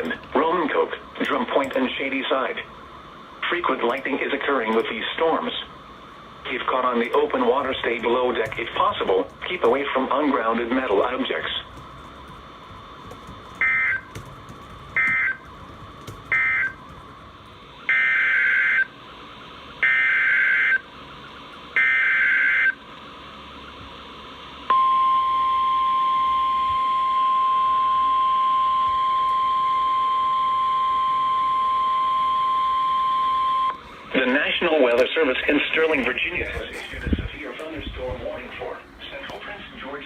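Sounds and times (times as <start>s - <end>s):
steady warning alarm tone: 0.0s - 36.4s.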